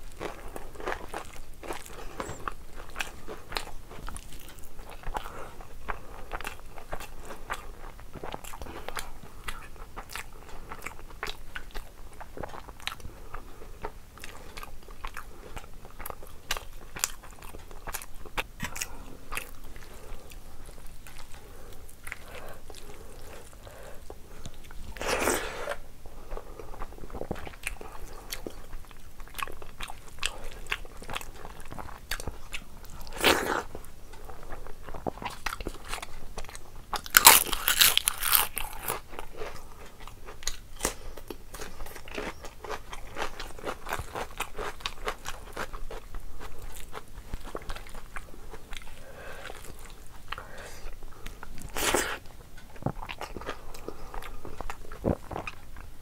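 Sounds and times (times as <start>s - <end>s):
wet chewing and crunching clicks: 0.1s - 25.0s, 26.8s - 50.5s, 51.2s - 56.0s.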